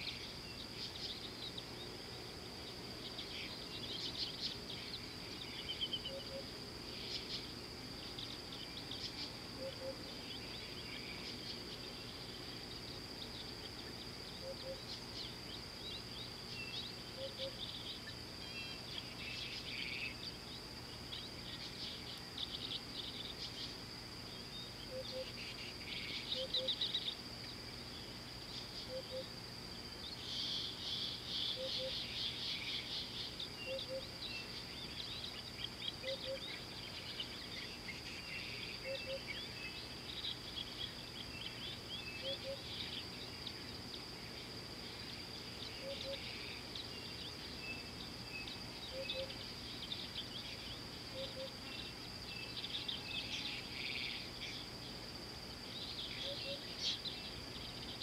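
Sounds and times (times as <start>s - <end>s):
birds chirping and twittering: 0.0s - 58.0s
high-pitched insect drone: 0.0s - 58.0s.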